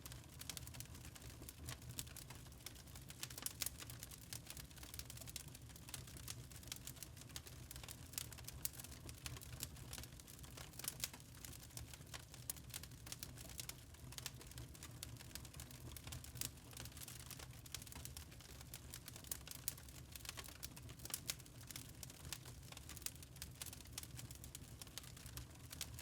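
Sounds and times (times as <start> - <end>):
low rumble of flames: 0.0 - 26.0
wood fire crackling: 0.0 - 26.0.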